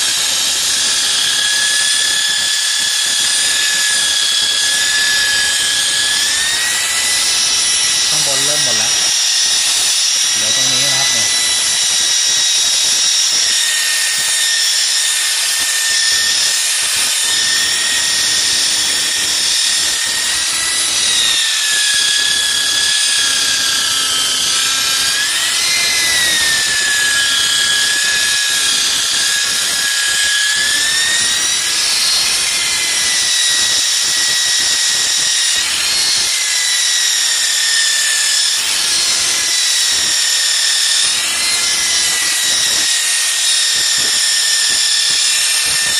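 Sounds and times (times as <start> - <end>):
electric polisher on glass: 0.0 - 45.9.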